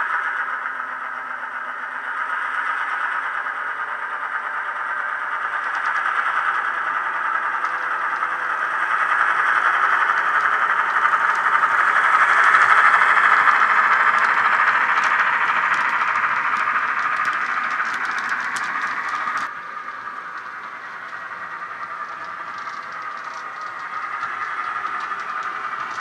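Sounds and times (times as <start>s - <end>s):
model train diesel engine sound: 0.0s - 26.0s.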